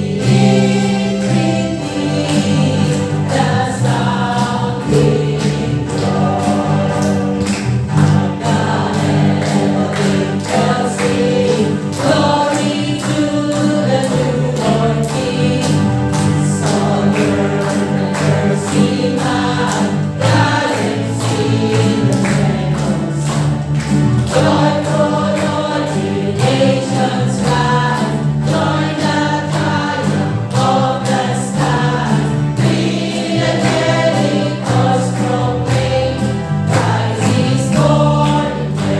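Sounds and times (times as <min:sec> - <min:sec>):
backing music with steady beat: 0:00.0 - 0:38.9
choir singing a carol: 0:00.0 - 0:38.9.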